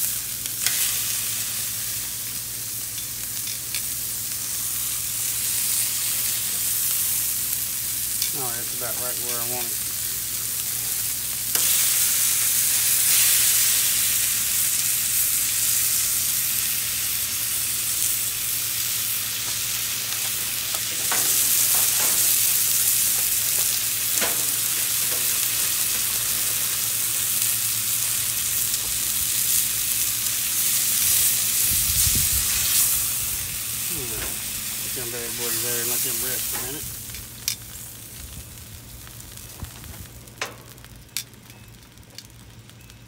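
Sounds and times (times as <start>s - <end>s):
steaks sizzling on a griddle: 0.0s - 42.8s.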